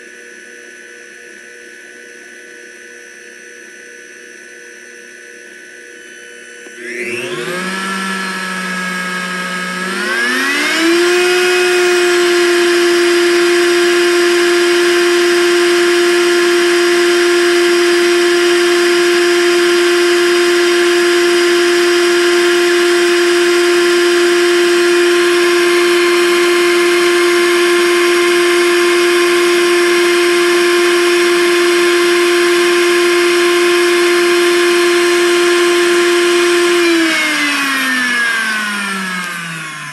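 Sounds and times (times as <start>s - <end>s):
blender motor whining: 0.0s - 39.9s.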